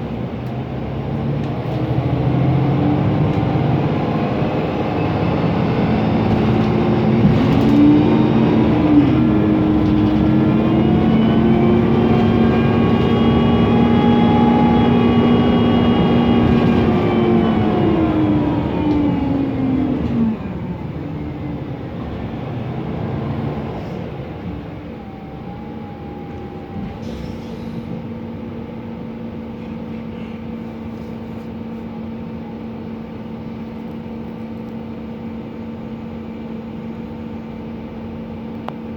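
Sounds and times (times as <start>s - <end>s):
bus engine: 0.0s - 38.9s.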